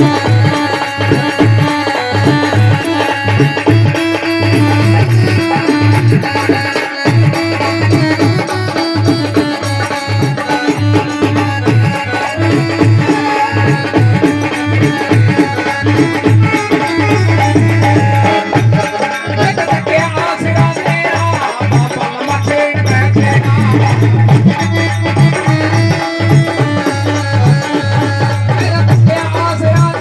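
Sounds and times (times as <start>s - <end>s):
devotional folk music: 0.0s - 30.0s
tabla-like drums: 0.0s - 30.0s.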